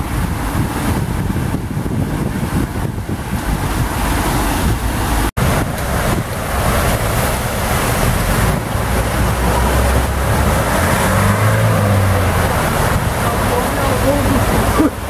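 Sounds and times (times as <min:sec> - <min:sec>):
runoff water rushing: 0:00.0 - 0:15.0
tyres splashing through water: 0:00.0 - 0:15.0
wind on microphone: 0:00.0 - 0:15.0.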